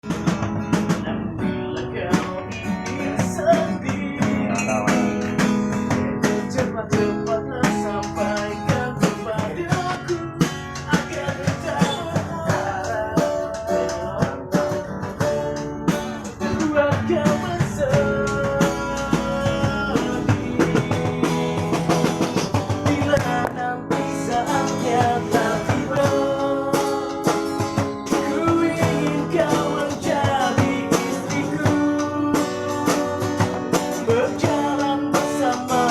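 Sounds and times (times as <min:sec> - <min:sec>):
guitar strummed quickly: 0:00.0 - 0:35.9
person singing: 0:01.0 - 0:35.9.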